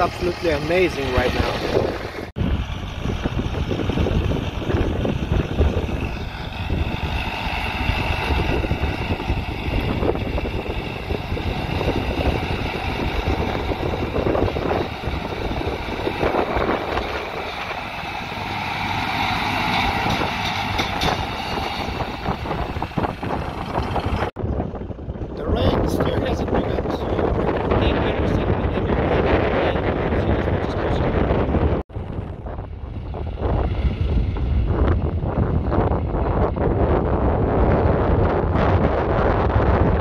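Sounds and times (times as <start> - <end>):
tractor diesel engine running: 0.0 - 30.1, 30.7 - 38.5.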